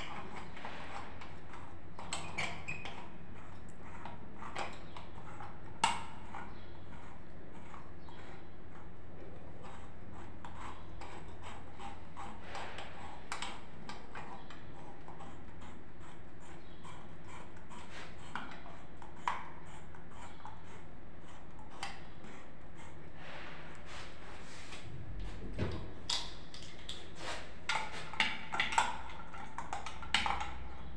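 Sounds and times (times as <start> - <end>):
steady low hum: 3.1 - 30.9.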